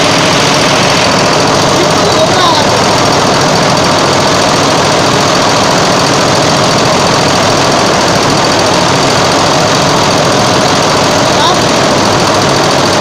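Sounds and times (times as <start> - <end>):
embroidery machine clatter: 0.0 - 13.0.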